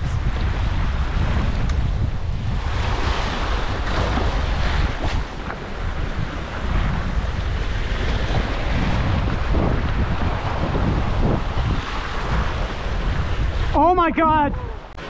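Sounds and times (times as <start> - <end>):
waves splashing against rocks: 0.0 - 14.5
wind buffeting microphone: 0.0 - 15.0.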